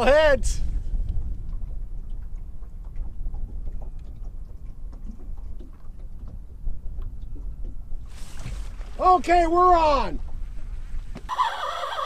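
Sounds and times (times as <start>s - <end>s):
water lapping against boat hull: 0.0s - 12.0s
wind rumbling on microphone: 0.0s - 12.0s.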